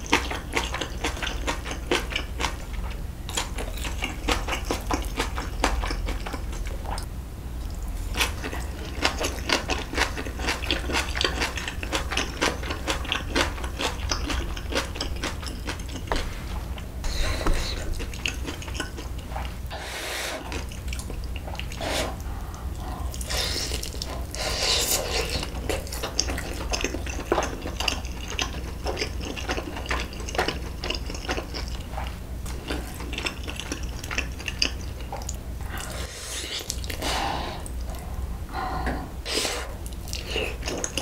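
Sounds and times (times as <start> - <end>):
wet chewing and lip-smacking: 0.0 - 19.7, 20.4 - 38.2, 39.7 - 41.0
steady low hum: 0.0 - 41.0.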